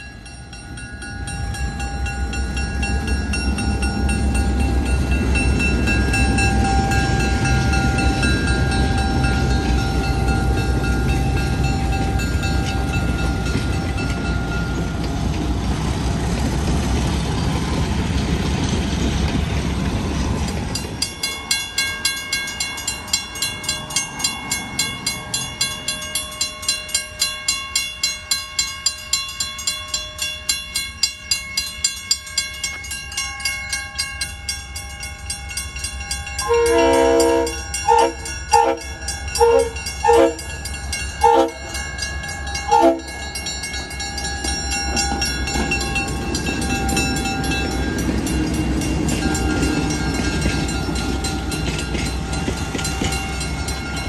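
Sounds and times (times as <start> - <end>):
diesel locomotive rumbling past: 0.0 - 54.0
wheels clacking over rail joints: 0.6 - 27.8, 31.6 - 54.0.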